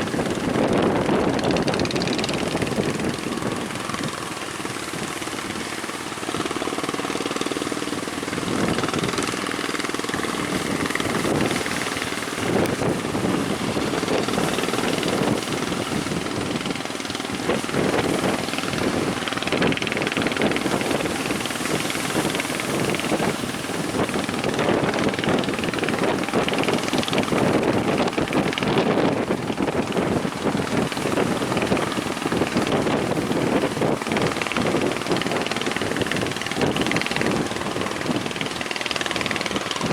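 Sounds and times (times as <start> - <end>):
boat engine pulsing: 0.0 - 39.9
sea waves: 0.0 - 39.9
wind: 0.0 - 39.9.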